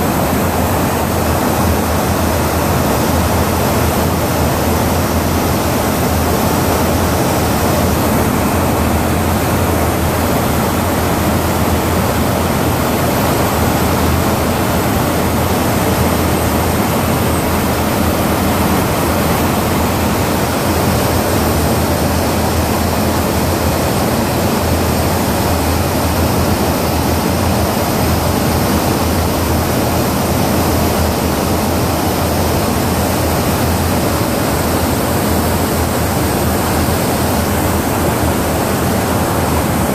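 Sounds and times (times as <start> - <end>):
aircraft airflow and engine rushing: 0.0 - 39.9.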